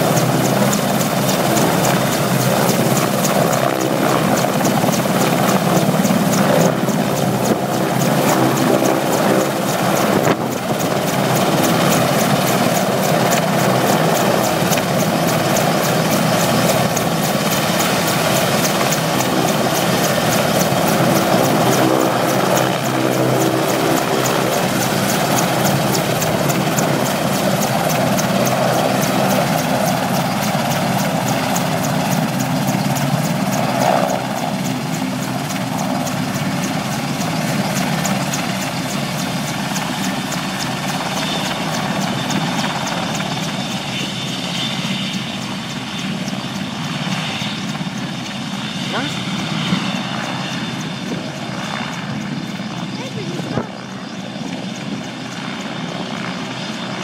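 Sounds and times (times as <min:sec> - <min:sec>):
helicopter engine whine: 0:00.0 - 0:57.0
rotor blades beating: 0:00.0 - 0:57.0.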